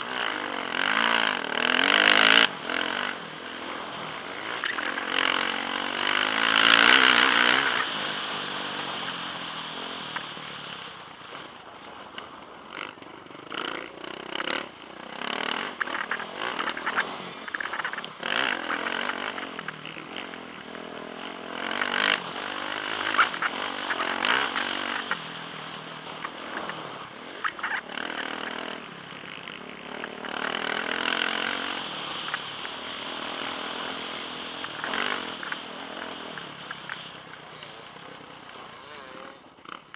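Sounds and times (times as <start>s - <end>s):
motocross engine revving: 0.0s - 11.6s, 12.6s - 39.9s.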